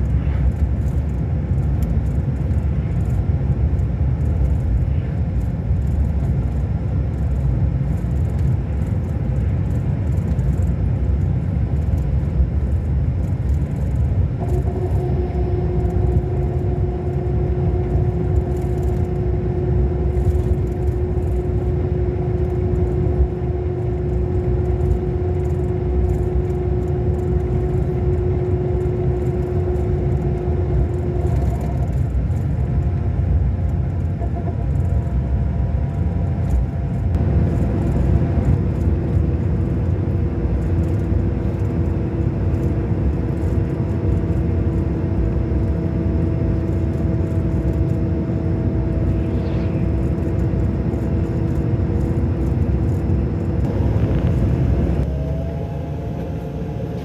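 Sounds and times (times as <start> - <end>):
bus diesel engine rumbling: 0.0 - 57.0
steady whine: 0.0 - 57.0.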